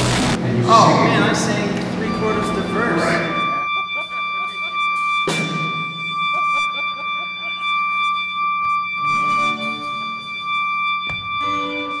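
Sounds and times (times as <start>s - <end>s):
long held high note: 0.0s - 12.0s
pitched musical notes: 0.0s - 12.0s.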